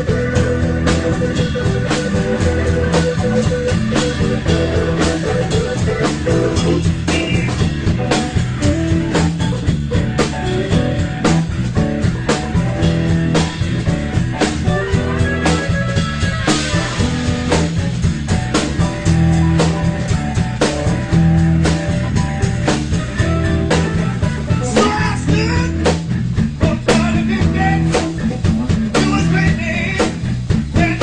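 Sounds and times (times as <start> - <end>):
drum kit steady beat: 0.0 - 31.0
guitar: 0.0 - 31.0.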